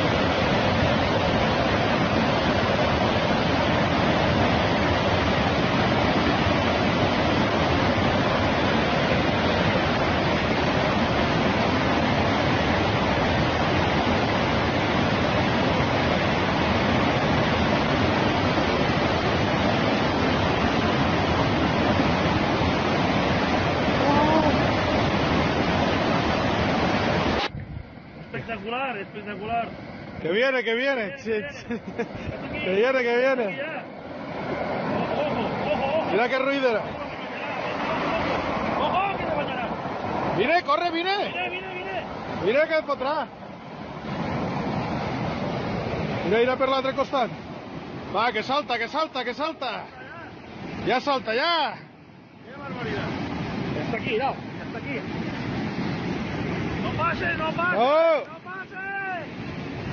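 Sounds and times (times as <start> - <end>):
rushing water torrent: 0.0 - 59.9.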